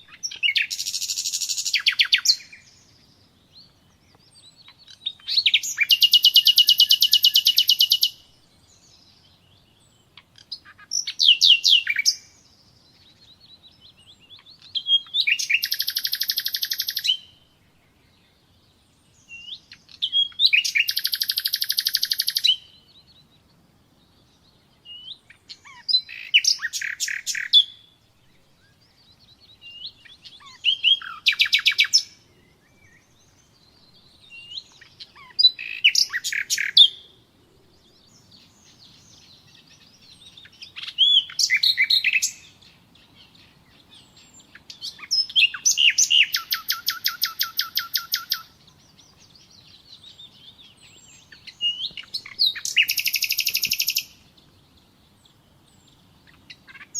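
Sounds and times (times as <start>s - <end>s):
nightingale singing: 0.0s - 56.9s.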